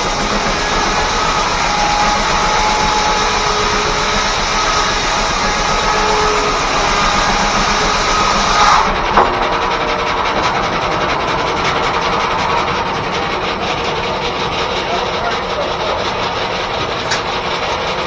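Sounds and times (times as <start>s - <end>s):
circular saw cutting log: 0.0s - 18.0s
sawmill running steadily: 0.0s - 18.0s.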